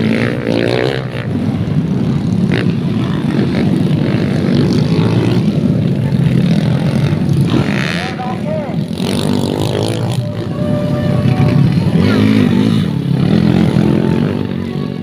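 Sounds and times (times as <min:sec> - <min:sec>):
dirt bike engines droning: 0:00.0 - 0:15.0.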